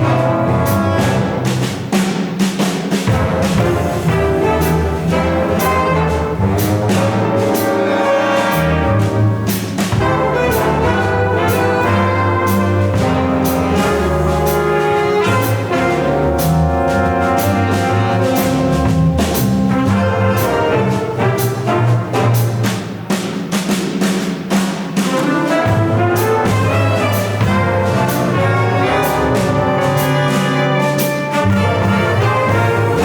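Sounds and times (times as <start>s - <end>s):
brass holding chords: 3.1s - 22.6s, 25.1s - 33.0s.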